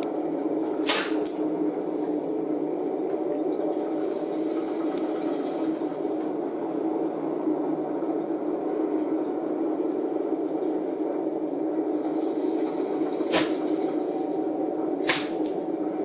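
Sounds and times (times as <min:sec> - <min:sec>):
faint high whine: 0:00.0 - 0:16.0
steady rumbling noise: 0:00.0 - 0:16.0.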